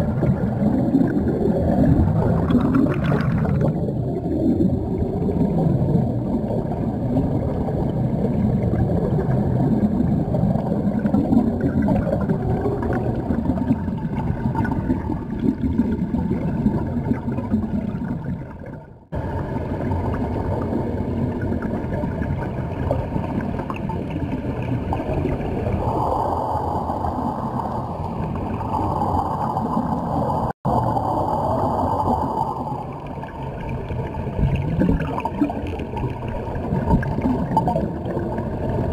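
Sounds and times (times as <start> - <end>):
air bubbling underwater: 0.0 - 38.9
muffled underwater rumble: 0.0 - 38.9.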